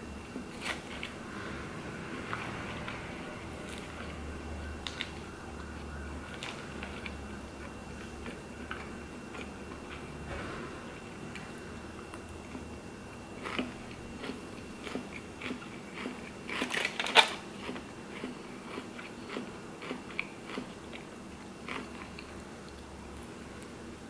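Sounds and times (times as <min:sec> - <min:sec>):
chewing and crunching salad: 0:00.2 - 0:23.7.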